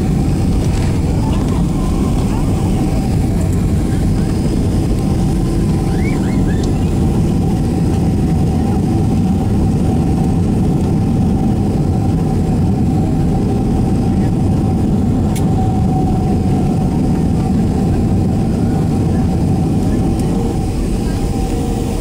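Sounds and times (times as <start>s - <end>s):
low rumble of engines and gear: 0.0s - 22.0s
mid-pitched hum: 0.0s - 22.0s.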